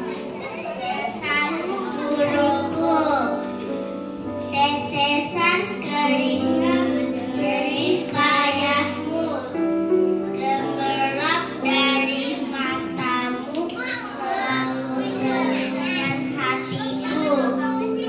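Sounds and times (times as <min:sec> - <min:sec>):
children singing: 0:00.0 - 0:03.4, 0:04.5 - 0:09.6, 0:10.3 - 0:18.0
music backing track: 0:00.0 - 0:18.0.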